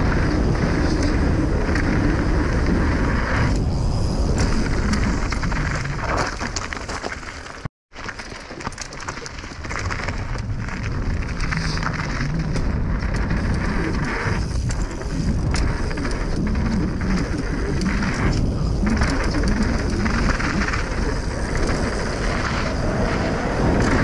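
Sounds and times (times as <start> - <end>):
wind rushing over microphone: 0.0 - 6.6, 9.6 - 24.0
bike rattling and clicking: 0.0 - 24.0
tyres on dirt and gravel: 0.0 - 24.0.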